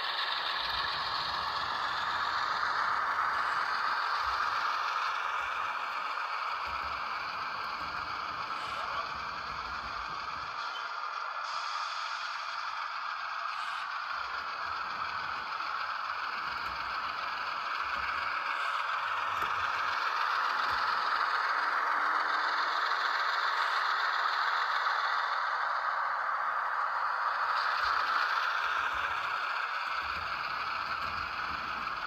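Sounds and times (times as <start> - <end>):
model train running on track: 0.0 - 32.0.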